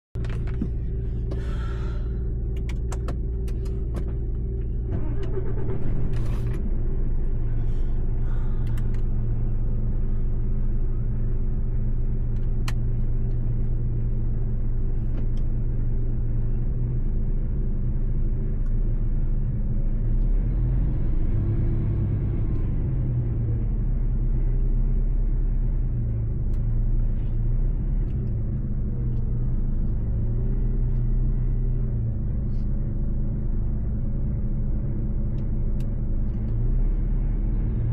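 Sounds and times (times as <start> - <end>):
truck diesel engine running: 0.2 - 37.9.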